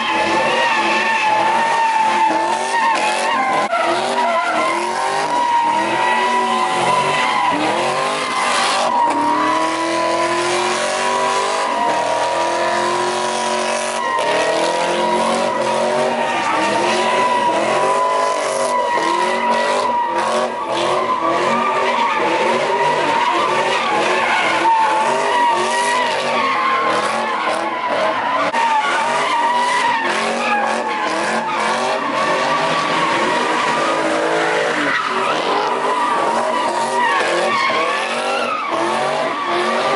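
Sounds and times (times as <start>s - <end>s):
car engine revving: 0.0s - 39.9s
tyres squealing: 0.0s - 39.9s.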